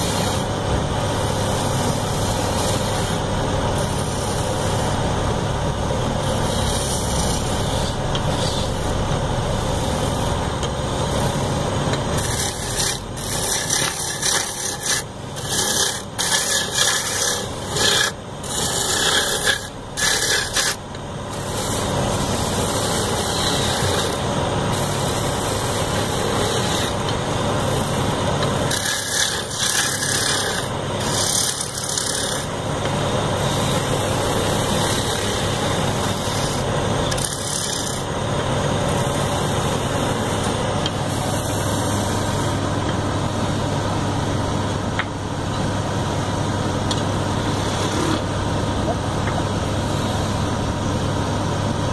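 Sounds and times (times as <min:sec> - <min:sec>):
wood lathe running: 0:00.0 - 0:41.8
turning tool scraping wood: 0:00.0 - 0:42.6, 0:46.9 - 0:49.0.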